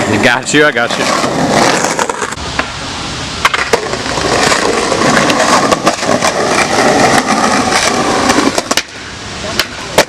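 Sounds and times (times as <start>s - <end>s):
skateboard wheels rolling: 0.0s - 10.0s.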